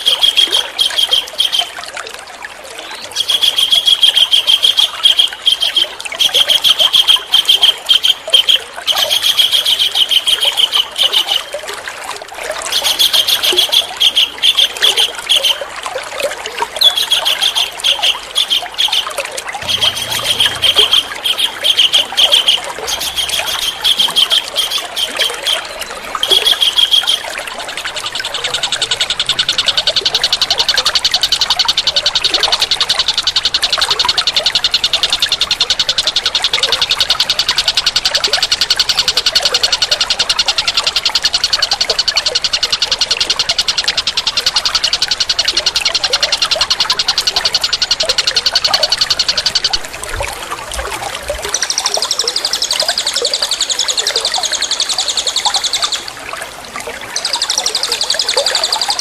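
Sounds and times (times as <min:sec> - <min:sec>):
songbird singing: 0:00.0 - 0:02.0, 0:02.7 - 0:11.7, 0:12.4 - 0:15.7, 0:16.6 - 0:56.3, 0:57.0 - 0:59.0
trickle of running water: 0:00.0 - 0:59.0.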